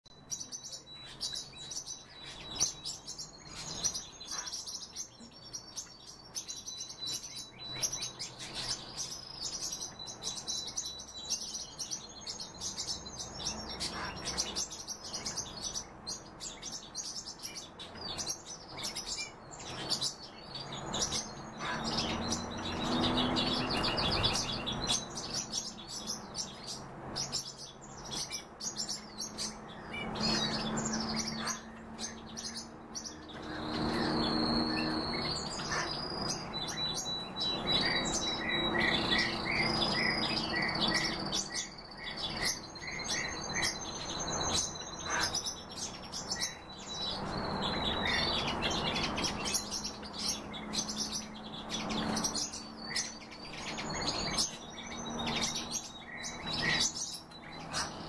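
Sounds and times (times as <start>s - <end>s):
cage birds chirping: 0.0s - 58.0s.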